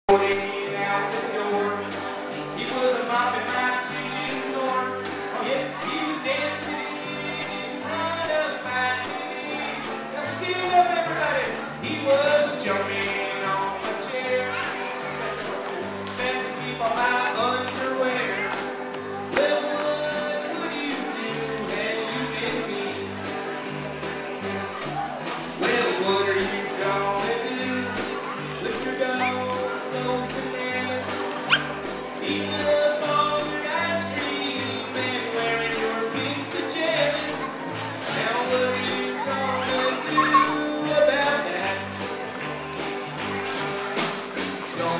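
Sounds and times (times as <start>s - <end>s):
acoustic guitar: 0.0s - 44.9s
man singing into a microphone: 0.1s - 15.2s, 16.1s - 18.6s, 19.3s - 23.3s, 25.6s - 31.4s, 32.1s - 42.1s.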